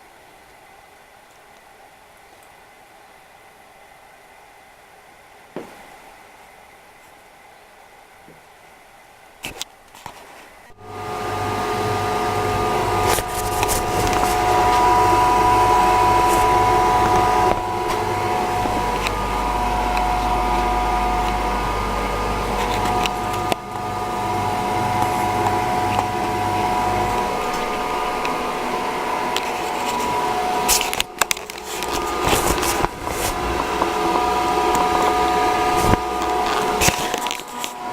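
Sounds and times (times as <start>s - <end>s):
fan heater humming and whining: 0.0s - 37.9s.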